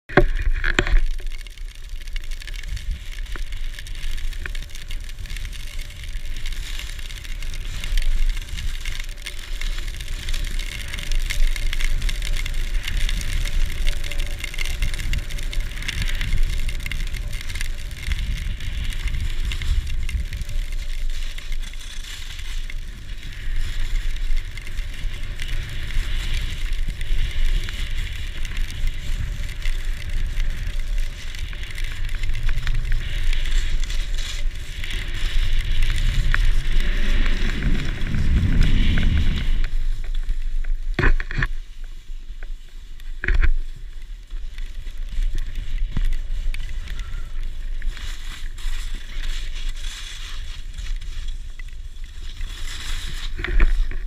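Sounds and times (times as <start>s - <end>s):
wind rumbling on microphone: 0.0s - 54.0s
skis sliding over snow: 0.1s - 54.0s.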